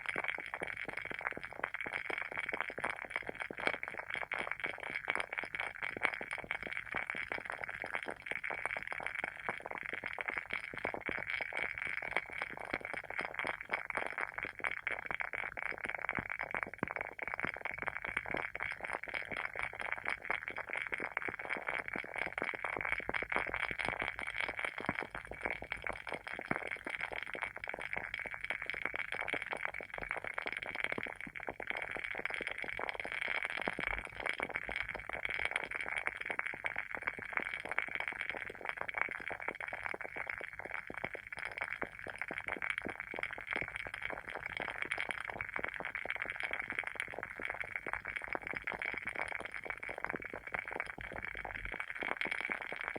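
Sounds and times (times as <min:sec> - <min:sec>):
candle wick crackling and popping: 0:00.0 - 0:52.9.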